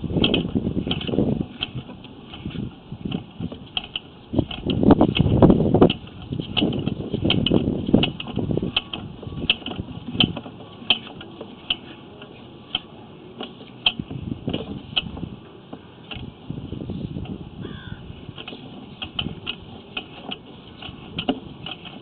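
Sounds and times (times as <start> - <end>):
cable being reeled in: 0.0 - 17.4, 18.2 - 22.0
low rattling rumble: 0.0 - 22.0
irregular clicks: 0.2 - 16.5, 18.2 - 22.0.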